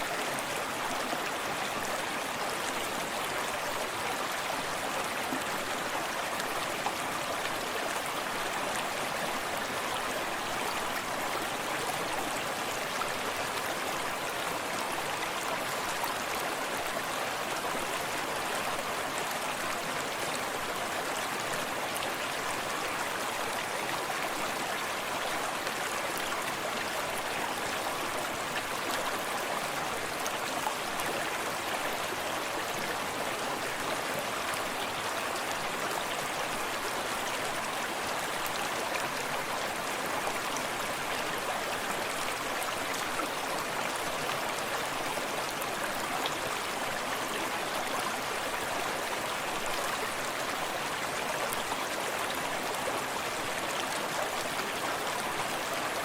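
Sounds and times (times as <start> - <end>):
stream burbling over rocks: 0.0 - 56.0.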